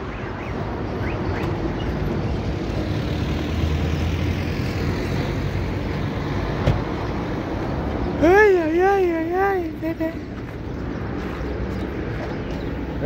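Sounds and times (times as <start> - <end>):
vehicles passing on road: 0.0 - 13.0.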